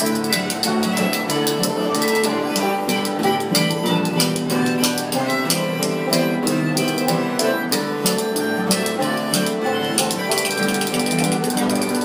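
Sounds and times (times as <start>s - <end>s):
old-time string-band music: 0.0s - 12.0s.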